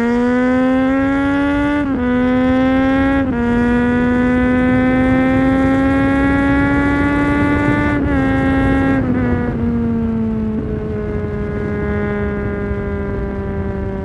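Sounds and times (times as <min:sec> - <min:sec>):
motorcycle engine while riding: 0:00.0 - 0:14.0.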